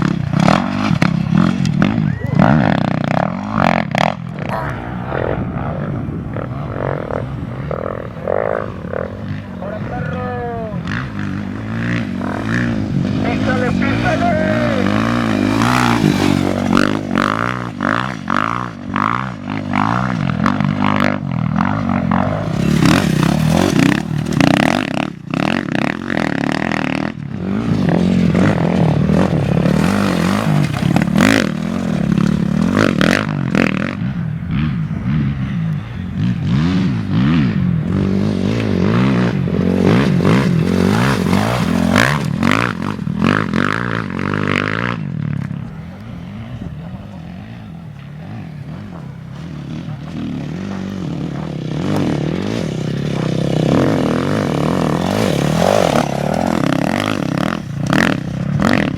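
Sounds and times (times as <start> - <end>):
rough rushes and clatter: 0.0 - 34.7, 36.2 - 58.9
race vehicle engines revving: 0.0 - 58.9.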